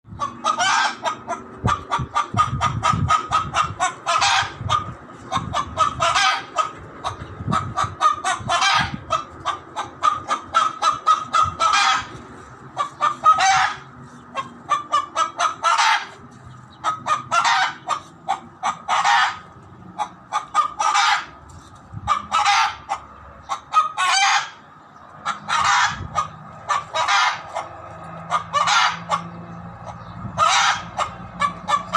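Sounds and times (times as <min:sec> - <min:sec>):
hen cackling: 0:00.1 - 0:31.9.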